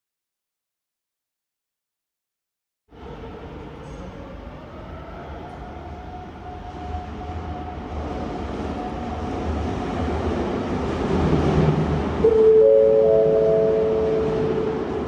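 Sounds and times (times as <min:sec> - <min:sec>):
subway train rumbling in tunnel: 0:02.9 - 0:15.0.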